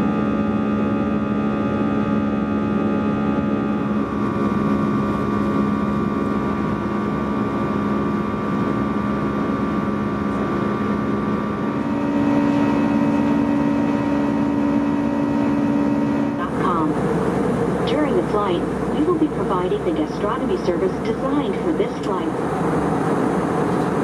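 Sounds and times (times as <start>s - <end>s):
jet engine drone: 0.0s - 24.0s.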